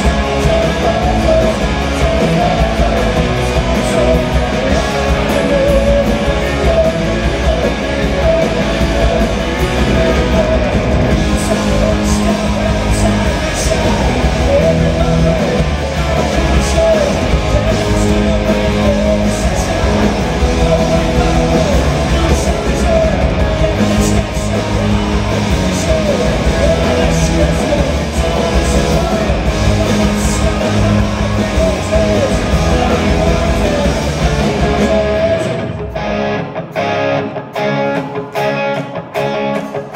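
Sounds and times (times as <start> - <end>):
man singing lead vocals: 0.0 - 36.1
bass guitar: 0.0 - 39.9
drums: 0.0 - 39.9
electric guitars: 0.0 - 39.9.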